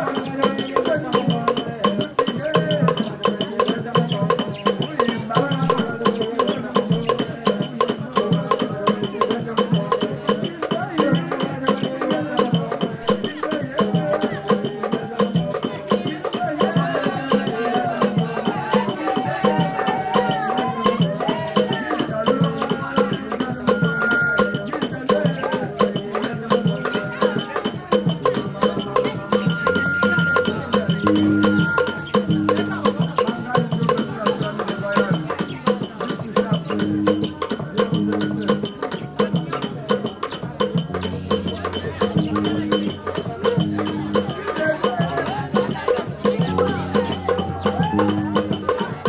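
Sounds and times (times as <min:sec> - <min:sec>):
voices singing together: 0:00.0 - 0:49.0.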